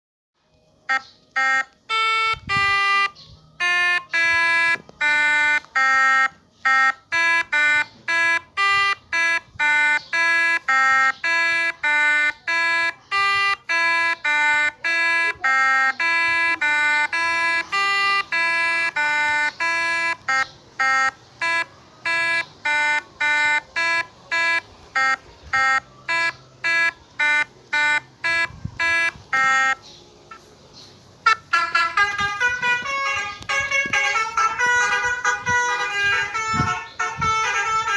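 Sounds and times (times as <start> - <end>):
melodica playing short notes: 0.9 - 30.5, 31.2 - 37.9.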